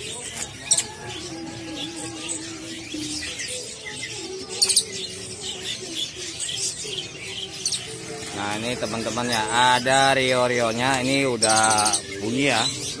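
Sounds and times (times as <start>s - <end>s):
songbirds chirping and twittering: 0.0s - 13.0s.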